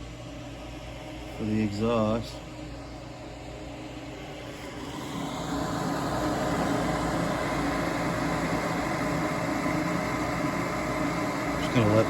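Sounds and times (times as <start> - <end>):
gas furnace humming and whooshing: 0.0 - 12.0.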